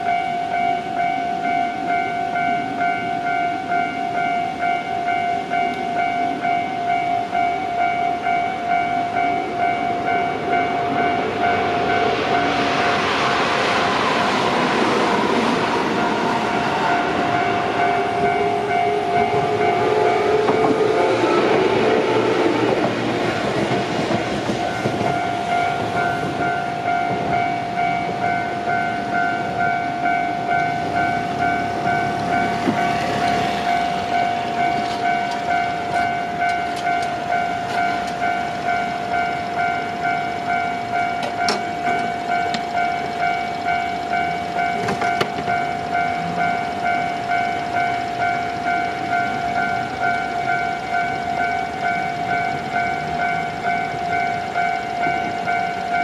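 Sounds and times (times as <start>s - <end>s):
electric train rumbling past: 0.0s - 56.0s
level crossing warning bell: 0.0s - 56.0s.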